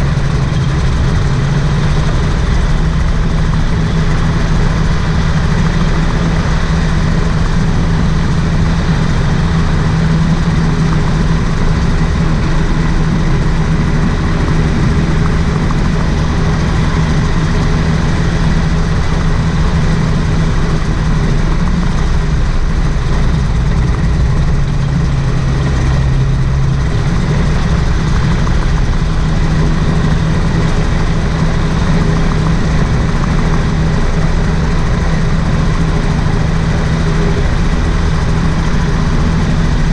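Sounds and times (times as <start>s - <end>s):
two-stroke gyroplane engine running: 0.0s - 39.9s.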